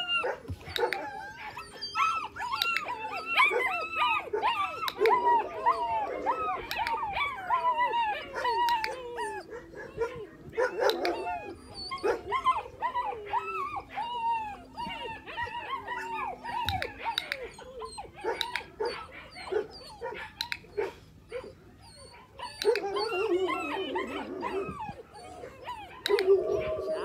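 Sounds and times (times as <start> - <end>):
puppies whining and yelping: 0.0 - 27.0.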